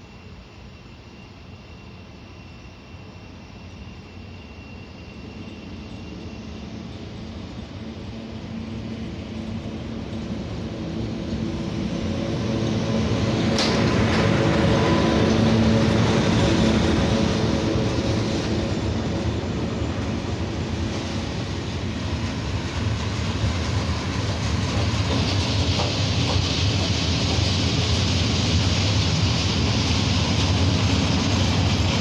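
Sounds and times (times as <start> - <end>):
locomotive hum: 0.0 - 32.0
train wheels rumbling on rail: 0.0 - 32.0.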